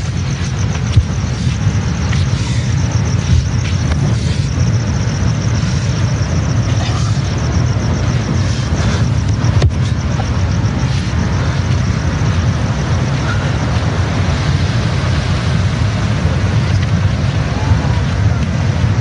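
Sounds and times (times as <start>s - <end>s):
hiss: 0.0s - 19.0s
low outdoor rumble: 0.0s - 19.0s.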